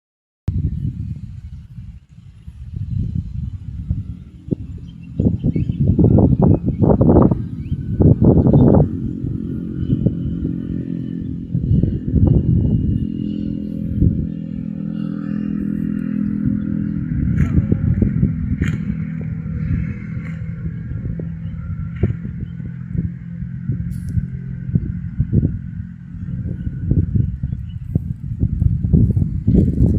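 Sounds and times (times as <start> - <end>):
vehicle engine humming: 0.5 - 29.9.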